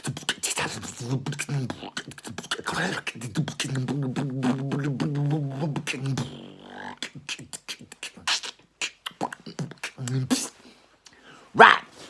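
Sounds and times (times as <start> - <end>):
beatboxing clicks and snaps: 0.0 - 11.2.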